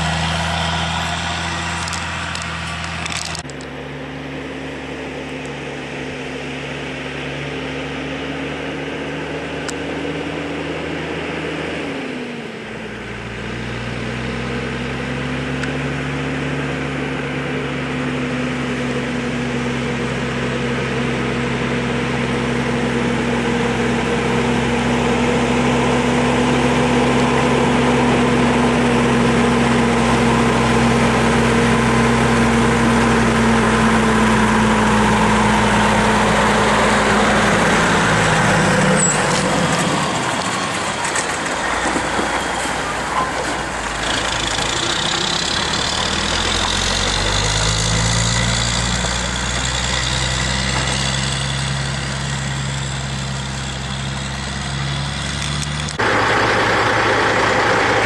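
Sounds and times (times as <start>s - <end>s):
truck engine humming: 0.0s - 58.0s.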